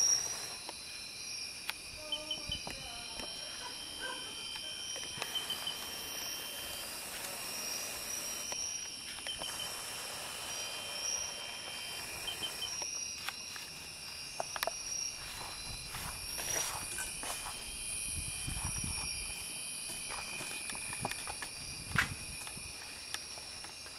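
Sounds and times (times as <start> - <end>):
insect chirps: 0.0 - 23.9
insects trilling: 0.0 - 23.9.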